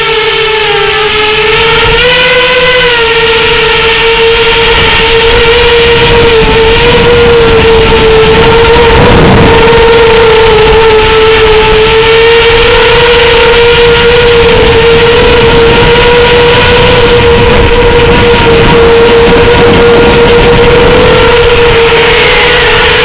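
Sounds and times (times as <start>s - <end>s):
drone propellers humming: 0.0s - 23.0s
loud rushing noise: 0.0s - 23.0s.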